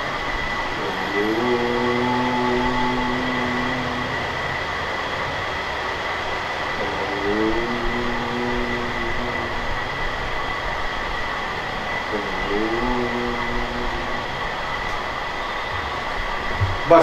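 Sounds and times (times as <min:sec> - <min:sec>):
loud background noise: 0:00.0 - 0:17.0
man chanting a long om: 0:00.0 - 0:17.0.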